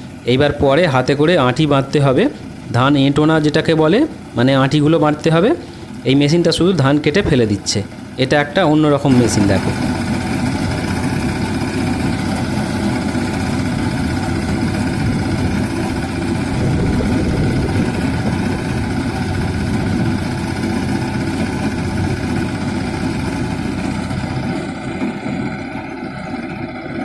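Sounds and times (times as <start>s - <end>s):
reaper engine droning: 0.0s - 27.0s.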